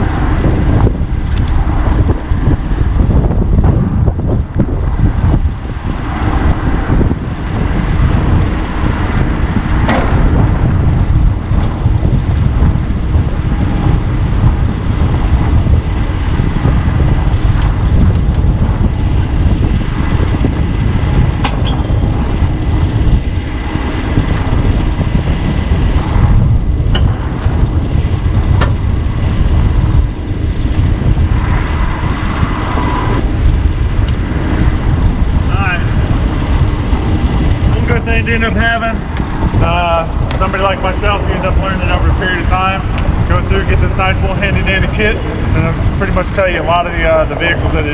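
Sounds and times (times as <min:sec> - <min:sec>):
vehicle engine rumbling: 0:00.0 - 0:47.9
wind buffeting microphone: 0:00.0 - 0:47.9.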